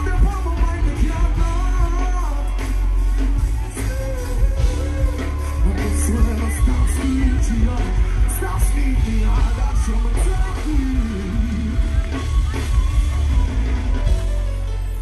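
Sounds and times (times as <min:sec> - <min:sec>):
man singing into microphone: 0:00.0 - 0:12.3
heavy bass beat: 0:00.0 - 0:15.0.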